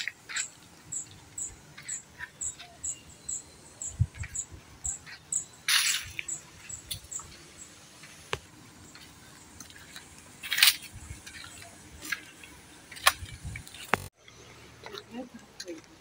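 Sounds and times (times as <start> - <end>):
footsteps on sandy path: 0.0 - 14.1.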